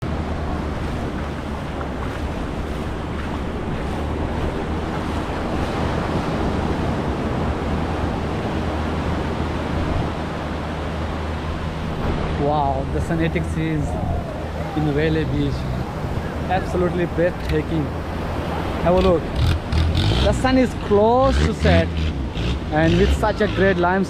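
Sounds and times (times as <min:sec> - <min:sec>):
wind rumbling on microphone: 0:00.0 - 0:24.0
surf washing onto beach: 0:00.1 - 0:24.0.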